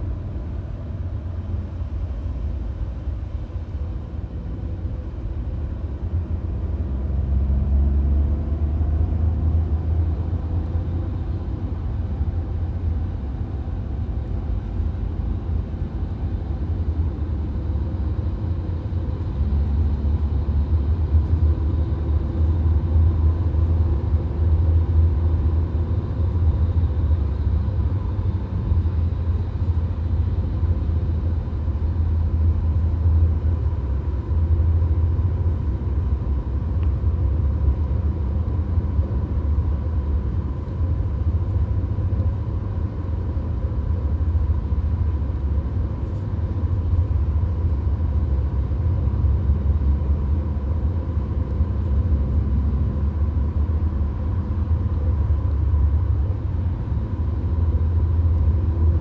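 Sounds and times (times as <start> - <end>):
car cabin road and engine noise: 0.0 - 59.0.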